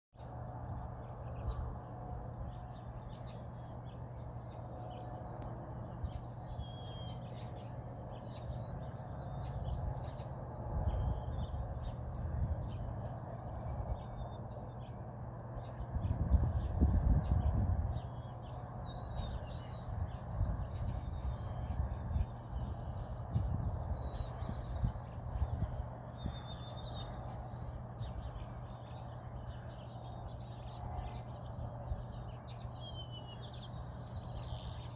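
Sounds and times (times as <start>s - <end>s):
low rumbling noise: 0.2s - 34.9s
small birds chirping: 0.2s - 34.9s.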